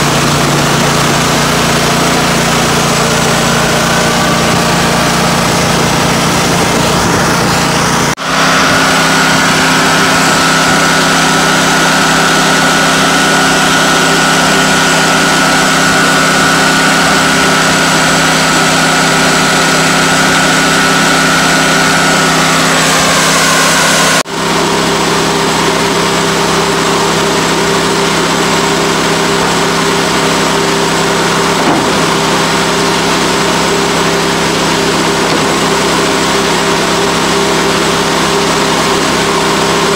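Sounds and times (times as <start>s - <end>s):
high whine: 0.0s - 39.9s
sawmill engine running: 0.0s - 39.9s.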